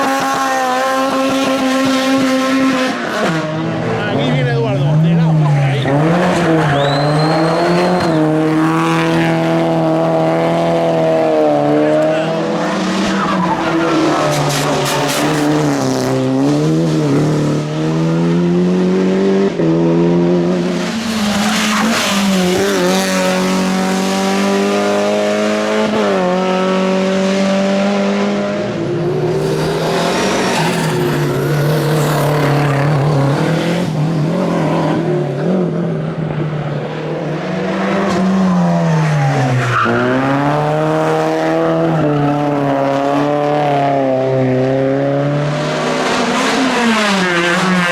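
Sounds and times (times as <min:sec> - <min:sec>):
race car engines revving: 0:00.0 - 0:47.9.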